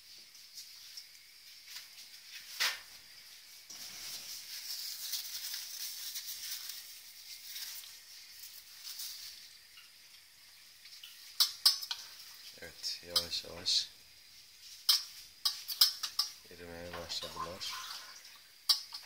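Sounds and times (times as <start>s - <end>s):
faint hiss with small ticks: 0.0s - 19.0s.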